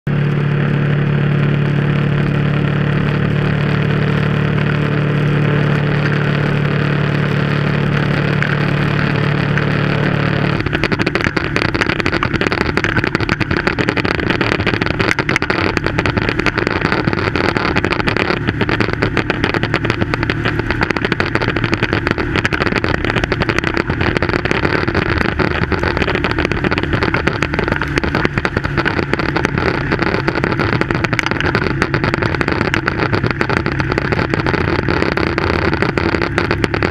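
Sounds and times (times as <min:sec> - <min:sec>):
motorcycle engine humming: 0:00.0 - 0:36.9
wind rush: 0:00.3 - 0:34.9.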